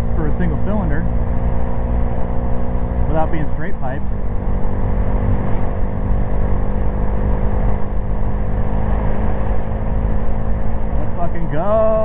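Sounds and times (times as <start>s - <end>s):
motorcycle engine cruising: 0.0s - 12.0s
wind rumble on microphone: 0.9s - 12.0s.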